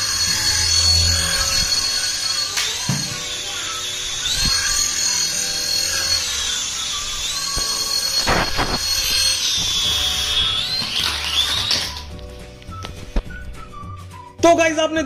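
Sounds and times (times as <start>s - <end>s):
toy helicopter motors whining: 0.0s - 12.8s.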